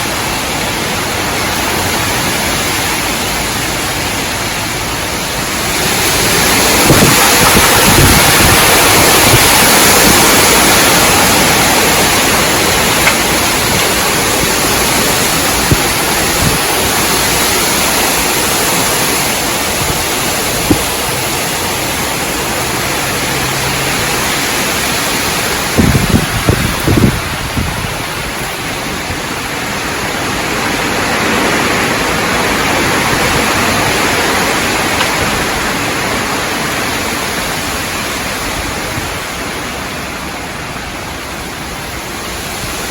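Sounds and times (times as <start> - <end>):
wind gusting through trees: 0.0 - 42.9.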